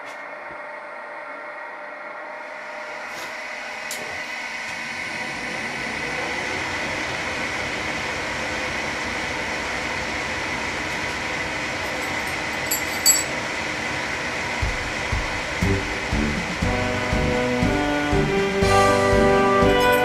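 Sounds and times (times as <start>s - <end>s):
milling machine running with whine: 0.0s - 20.0s.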